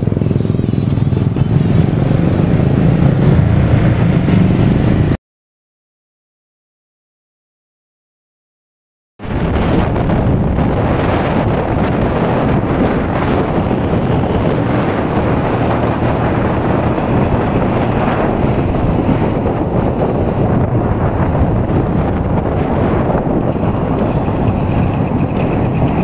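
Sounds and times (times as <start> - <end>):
motorcycle engine cruising: 0.0 - 5.2, 9.3 - 26.0
wind noise on microphone: 0.0 - 5.2, 9.2 - 26.0.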